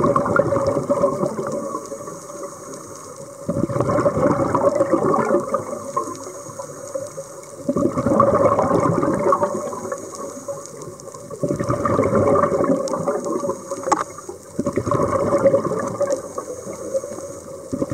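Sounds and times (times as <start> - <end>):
underwater regulator bubbles: 0.0 - 17.9.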